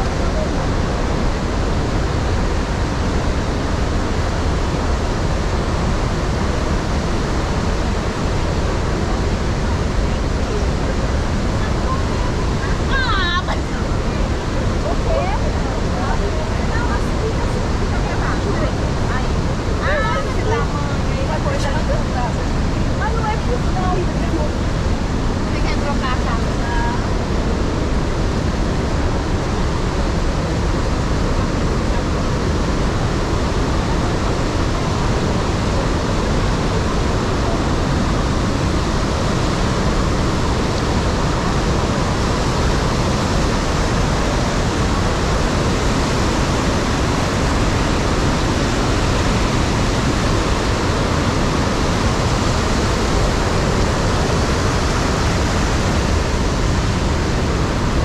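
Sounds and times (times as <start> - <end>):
waterfall crashing: 0.0 - 58.0.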